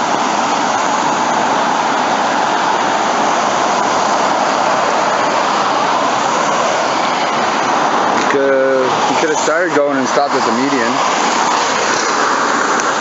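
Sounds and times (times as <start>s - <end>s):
tyres of passing cars: 0.0s - 13.0s.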